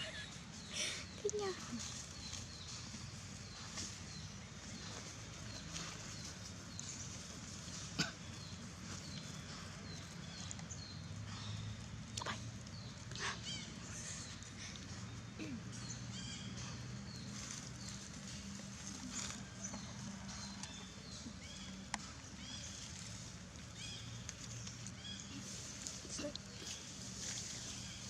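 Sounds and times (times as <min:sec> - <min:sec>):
low steady background hum: 0:00.0 - 0:28.0.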